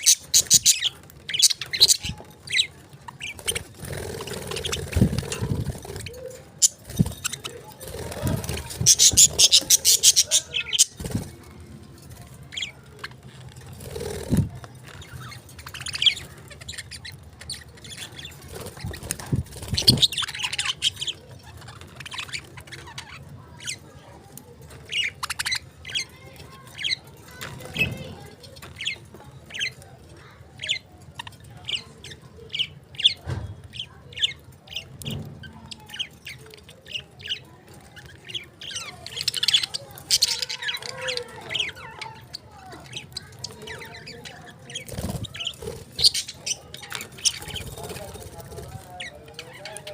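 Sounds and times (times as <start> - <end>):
parrots chirping: 0.0 - 11.4, 12.2 - 23.9, 24.8 - 29.9, 30.6 - 49.9.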